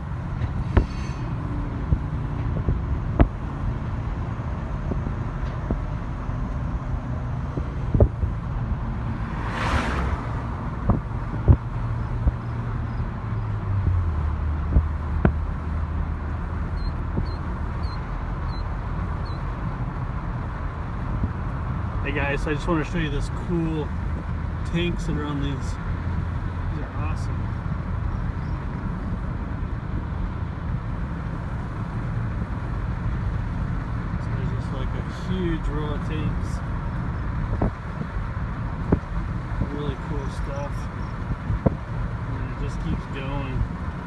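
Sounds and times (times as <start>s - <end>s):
low vehicle engine rumble: 0.0s - 44.0s.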